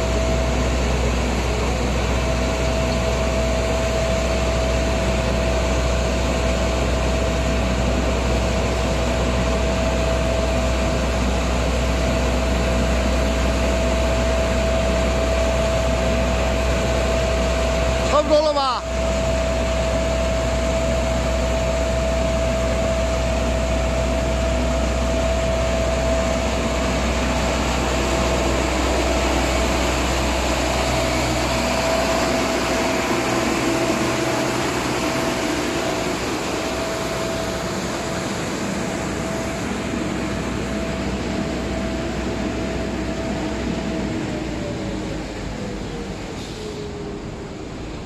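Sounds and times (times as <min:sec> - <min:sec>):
constant mechanical whine: 0:00.0 - 0:48.0
deep engine rumble: 0:00.0 - 0:48.0
road sweeper truck drone: 0:00.0 - 0:48.0.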